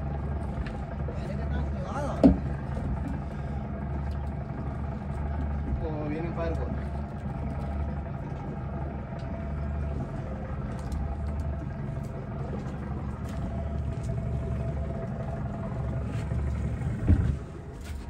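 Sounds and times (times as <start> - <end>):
outboard motor idling: 0.0 - 18.0.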